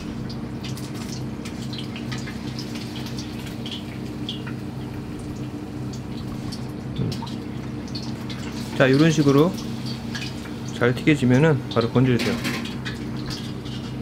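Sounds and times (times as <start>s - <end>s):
hot oil sizzling: 0.0s - 14.0s
steady low hum: 0.0s - 14.0s.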